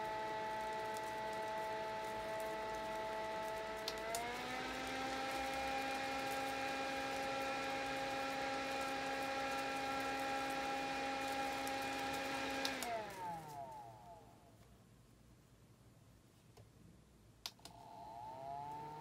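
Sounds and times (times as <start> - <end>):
mini fan whining: 0.0 - 14.8, 17.4 - 19.0.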